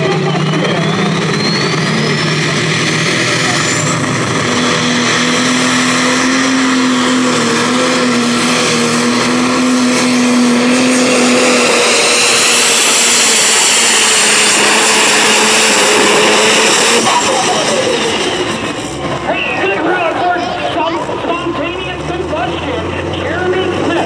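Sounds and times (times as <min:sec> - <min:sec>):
diesel engine running under load: 0:00.0 - 0:24.0
high turbo whine: 0:00.0 - 0:24.0.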